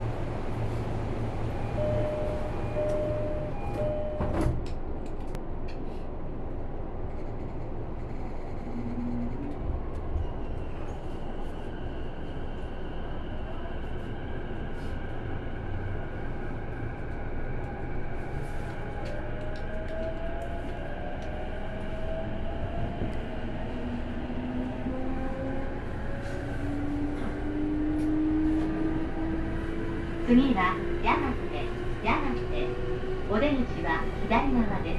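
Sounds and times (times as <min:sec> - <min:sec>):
wheels rumbling on rail: 0:00.0 - 0:34.9.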